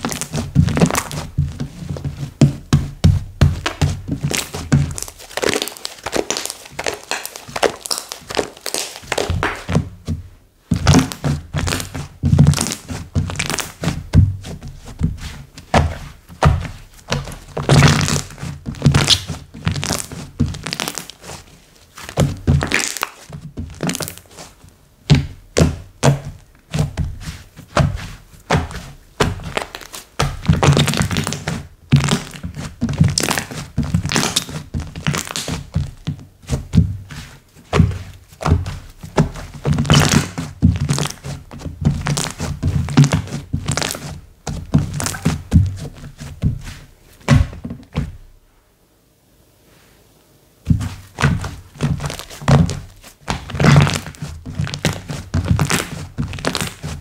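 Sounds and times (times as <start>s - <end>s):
hands squishing slime: 0.0s - 10.0s, 10.7s - 48.2s, 50.6s - 57.0s.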